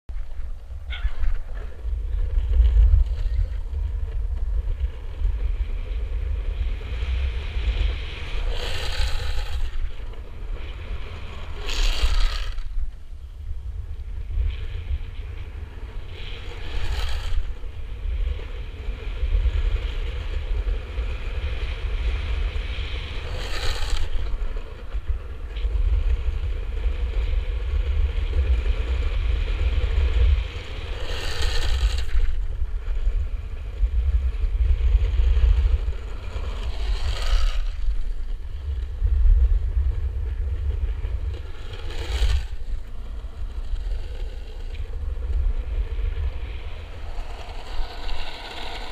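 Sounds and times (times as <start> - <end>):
longboard wheels rolling on asphalt: 0.1 - 48.9
wind rumble on microphone: 0.1 - 48.9
wheels scraping in slides: 1.0 - 13.0, 14.3 - 48.9.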